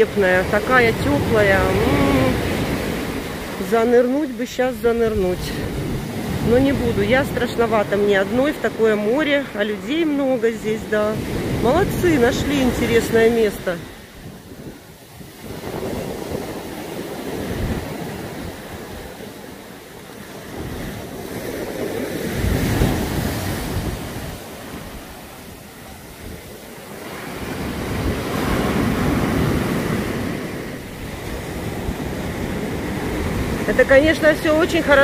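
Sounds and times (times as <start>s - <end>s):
surf breaking on beach: 0.0s - 35.0s
wind buffeting microphone: 4.9s - 10.0s, 10.8s - 19.5s, 20.4s - 35.0s.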